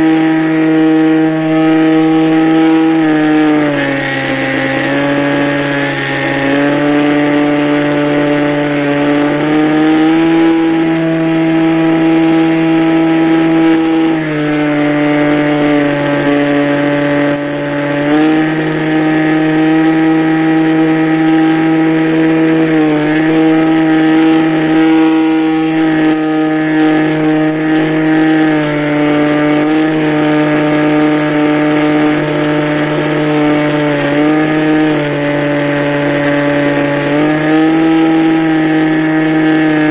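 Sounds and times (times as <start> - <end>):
model airplane motor running: 0.0 - 39.9.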